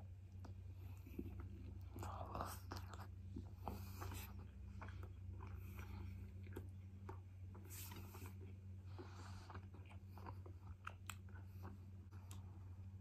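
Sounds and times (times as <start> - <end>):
steady low hum: 0.0 - 13.0
wet chewing mouth clicks: 0.3 - 12.5.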